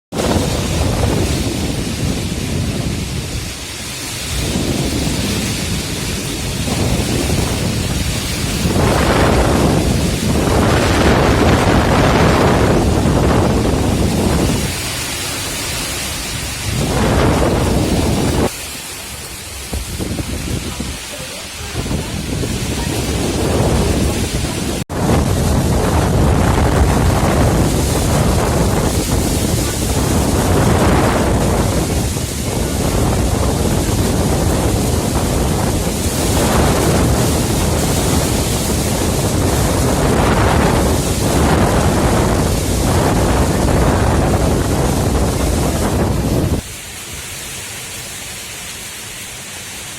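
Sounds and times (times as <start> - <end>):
rain: 0.1 - 49.9
steady rushing noise: 0.1 - 49.9
wind: 0.1 - 49.9.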